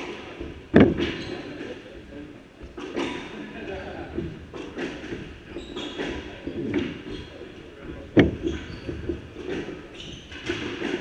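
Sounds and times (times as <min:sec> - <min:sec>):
squash ball hitting rackets and walls: 0:00.0 - 0:01.8, 0:02.7 - 0:03.4, 0:04.1 - 0:11.0
shoes squeaking: 0:00.0 - 0:03.4, 0:04.1 - 0:11.0.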